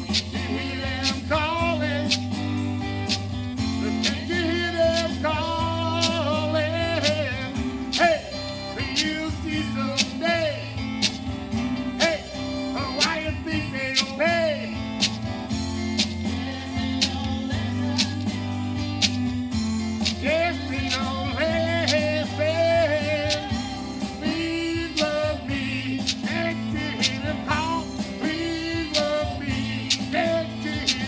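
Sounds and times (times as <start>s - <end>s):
man singing: 0.0s - 2.4s, 3.7s - 11.2s, 11.8s - 15.2s, 16.0s - 18.6s, 20.0s - 31.0s
guitar and bass with beat: 0.0s - 31.0s.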